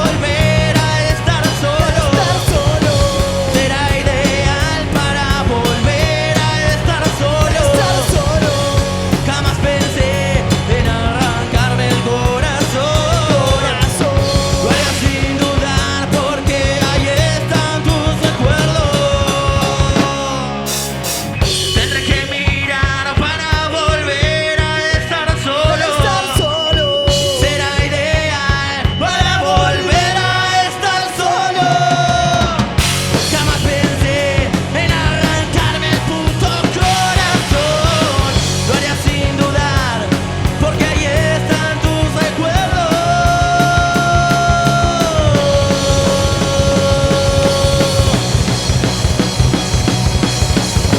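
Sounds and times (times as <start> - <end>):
person singing: 0.0 - 20.8, 21.4 - 48.6
drum kit beat: 0.0 - 50.9
electric guitars: 0.0 - 50.9.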